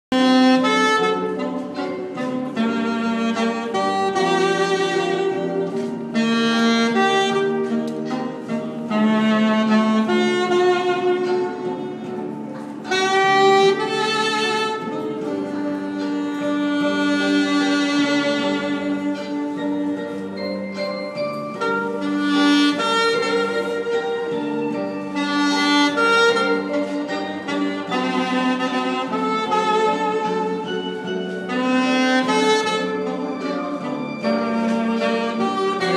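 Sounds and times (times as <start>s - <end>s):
saxophone jazz melody: 0.1s - 35.9s.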